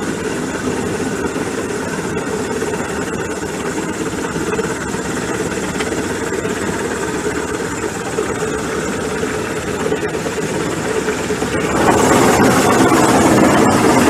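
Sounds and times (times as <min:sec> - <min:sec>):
helicopter hovering: 0:00.0 - 0:14.0.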